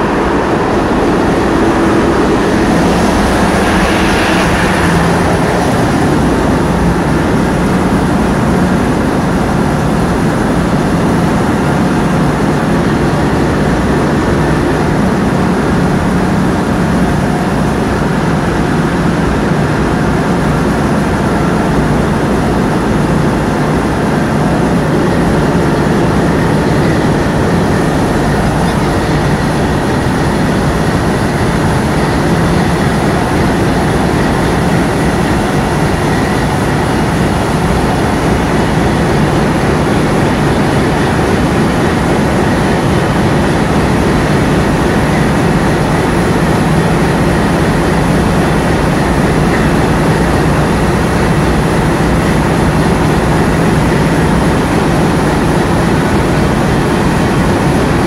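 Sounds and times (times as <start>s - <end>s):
marine diesel engine droning: 0.0s - 58.0s.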